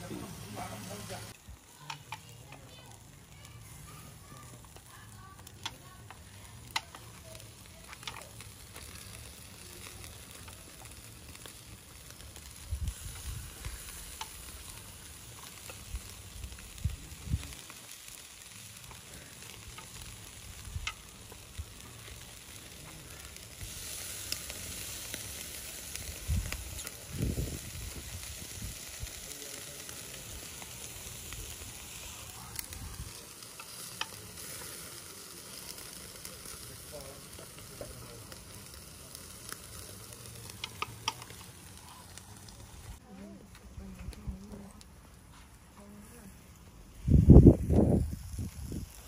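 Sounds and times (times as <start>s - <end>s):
food sizzling in frying: 0.0s - 43.0s, 45.3s - 49.0s.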